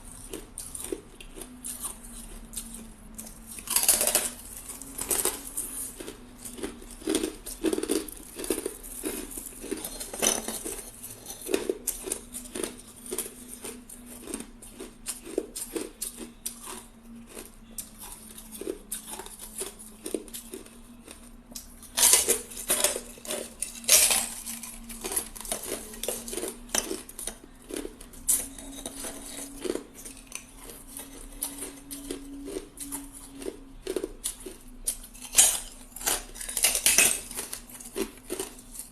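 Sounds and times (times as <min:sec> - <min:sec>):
faint steady hum: 0:00.0 - 0:38.9
ice being chewed crunching: 0:00.0 - 0:38.9.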